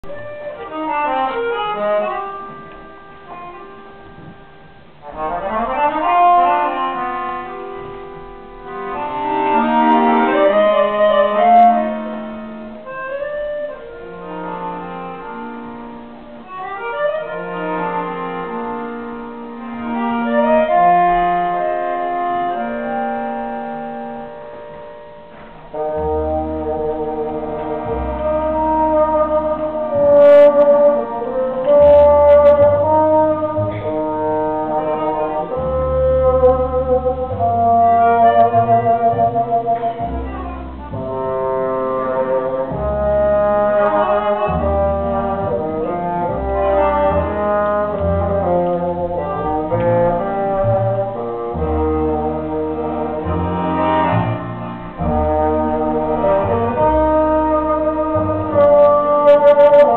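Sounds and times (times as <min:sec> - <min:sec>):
accordion chords and melody: 0:00.0 - 0:59.9
low double bass notes: 0:00.0 - 0:59.9
wind instrument notes: 0:00.0 - 0:59.9.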